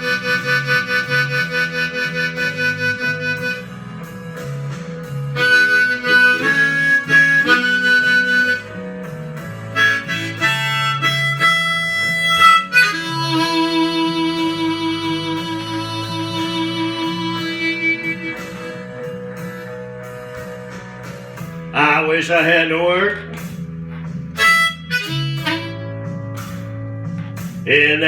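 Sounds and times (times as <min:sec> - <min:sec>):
blues harmonica solo: 0:00.0 - 0:20.6, 0:23.2 - 0:27.0
plucked guitar bass line: 0:00.0 - 0:28.0.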